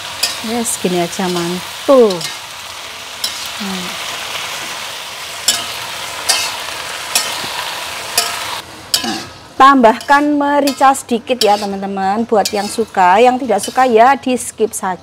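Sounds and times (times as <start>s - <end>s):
beans sizzling in a pan: 0.0s - 14.5s.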